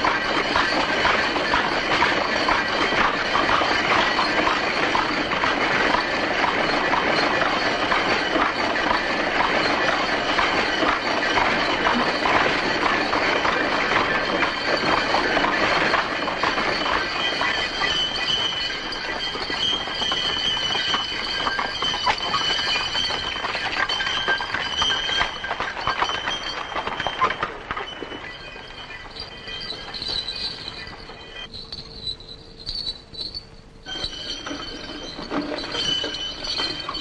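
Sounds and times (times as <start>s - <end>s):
carriage wheels rattling: 0.0s - 37.0s
horse hooves clattering: 0.0s - 37.0s
steady high squeal: 0.0s - 37.0s.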